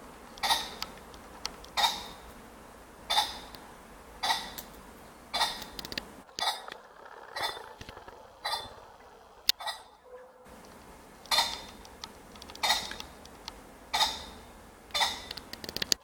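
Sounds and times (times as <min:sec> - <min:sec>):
pheasant harsh calls: 0:00.3 - 0:02.4, 0:03.0 - 0:15.6.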